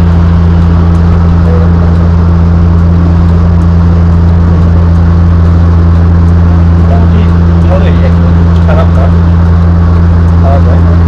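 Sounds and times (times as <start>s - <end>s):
airliner cabin drone: 0.0s - 11.0s
deep constant hum: 0.0s - 11.0s.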